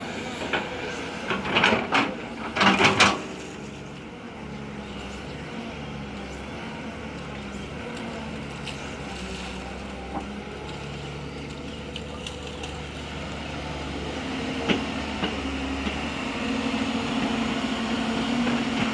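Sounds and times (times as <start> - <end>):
heavy machinery engine drone: 0.0 - 18.9.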